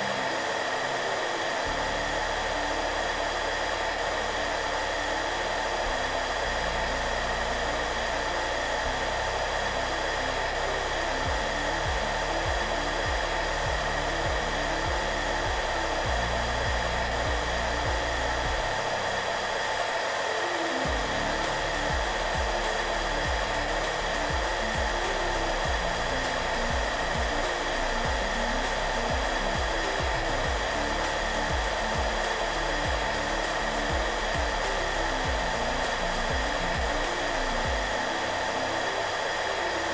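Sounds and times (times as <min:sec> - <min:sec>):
hair dryer blowing: 0:00.0 - 0:39.9
soft background music: 0:00.0 - 0:39.9.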